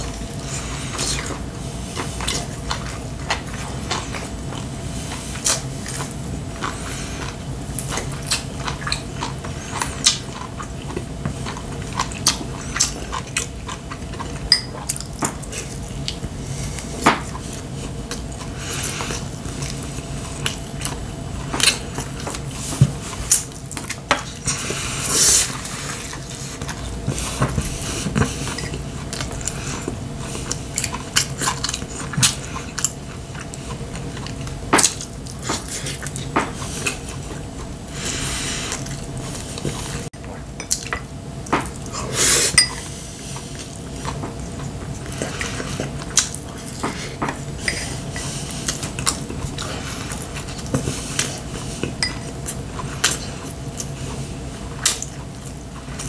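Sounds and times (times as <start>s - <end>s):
chewing: 0.0s - 56.0s.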